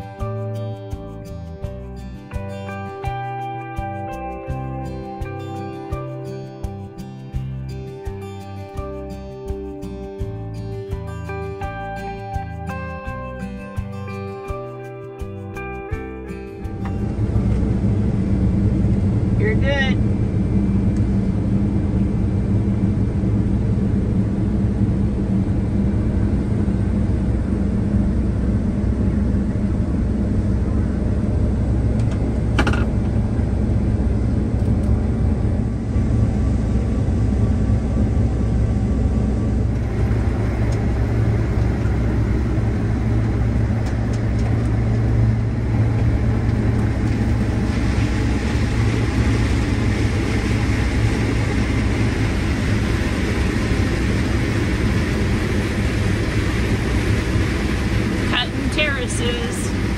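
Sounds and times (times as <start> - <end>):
combine engine hum: 0.0 - 59.9.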